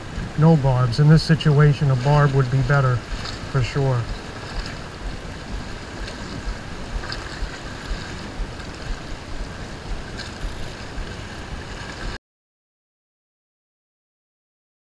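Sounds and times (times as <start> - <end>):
sea water lapping against rocks: 0.0 - 12.2
wind buffeting the microphone: 0.0 - 12.2.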